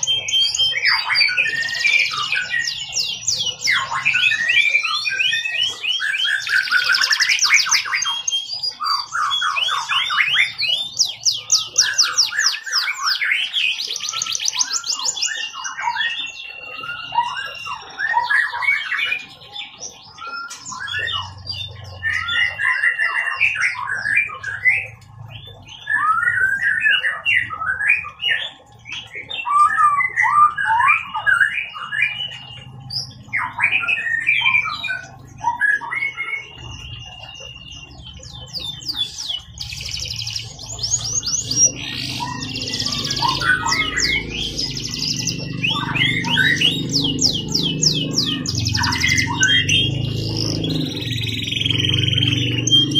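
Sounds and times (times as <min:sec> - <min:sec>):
canary singing: 0:00.0 - 0:52.9.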